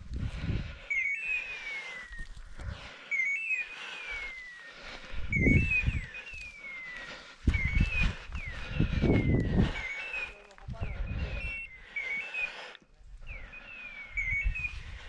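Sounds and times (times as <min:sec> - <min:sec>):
beeper collar hawk-scream call: 0:02.9 - 0:15.0.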